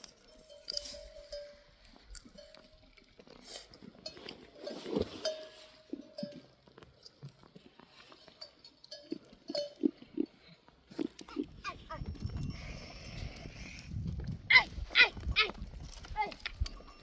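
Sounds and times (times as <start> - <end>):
animal bells clinking: 0.0 - 13.7, 15.1 - 17.0.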